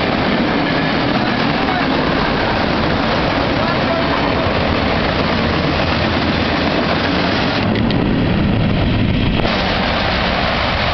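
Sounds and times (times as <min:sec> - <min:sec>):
freight cars rolling on rails: 0:00.0 - 0:10.9.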